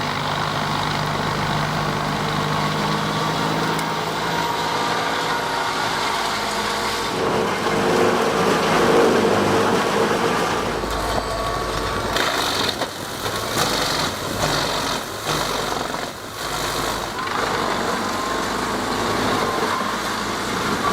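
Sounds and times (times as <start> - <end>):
heavy machinery engine running: 0.0 - 20.9.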